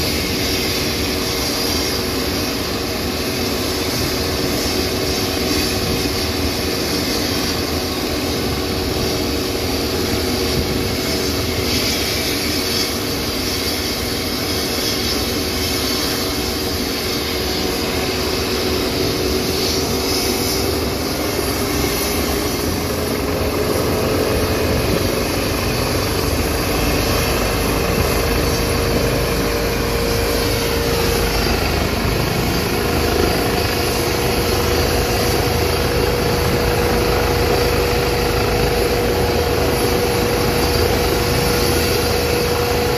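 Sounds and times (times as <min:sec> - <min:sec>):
helicopter turbine whine and rotor: 0:00.0 - 0:42.9.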